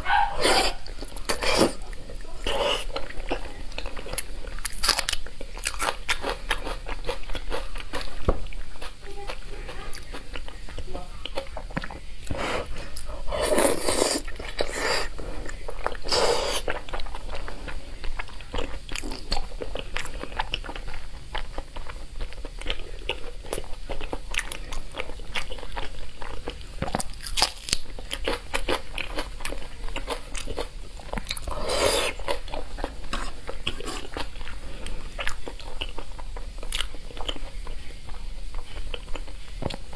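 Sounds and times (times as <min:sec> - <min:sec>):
biting and chewing food: 0:00.0 - 0:10.7, 0:11.3 - 0:39.9.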